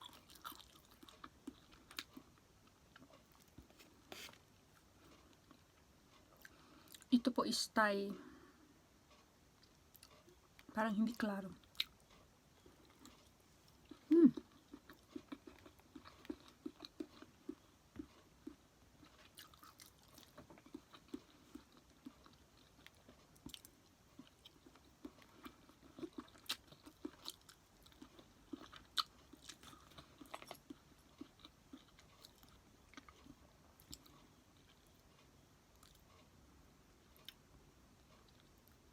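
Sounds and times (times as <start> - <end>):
close chewing: 0.0 - 7.1, 11.6 - 36.4.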